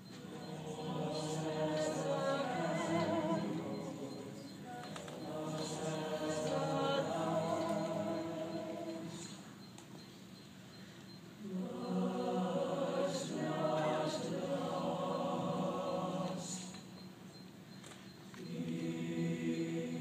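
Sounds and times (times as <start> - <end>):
mixed choir singing a cappella: 0.0 - 9.6, 11.4 - 17.2, 18.4 - 20.0.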